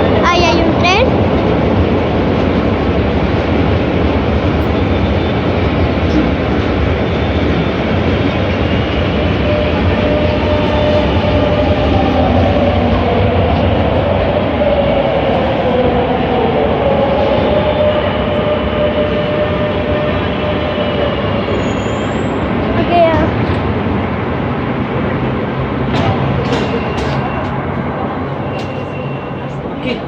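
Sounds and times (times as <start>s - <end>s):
metro train rumble: 0.0s - 30.0s.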